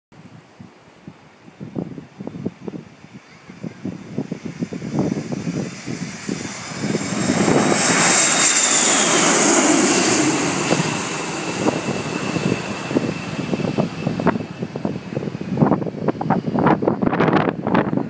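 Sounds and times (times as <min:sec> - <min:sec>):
airplane engine passing overhead: 0:01.3 - 0:18.0.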